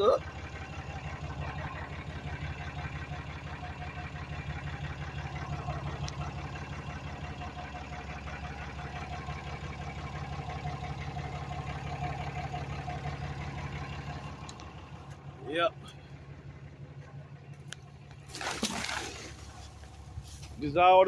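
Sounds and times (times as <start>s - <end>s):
pickup engine idling: 0.0s - 21.0s.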